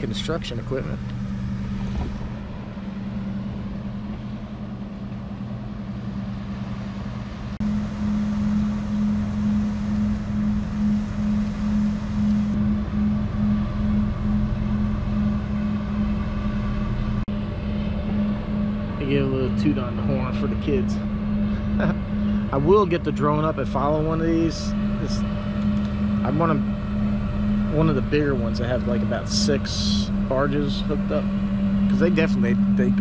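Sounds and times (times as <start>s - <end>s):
boat diesel engines droning: 0.0s - 33.0s.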